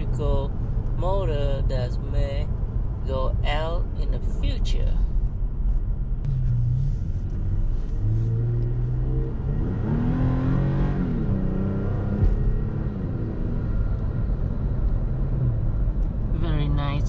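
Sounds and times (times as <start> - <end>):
car engine accelerating: 0.0 - 17.0
low road rumble: 0.0 - 17.0.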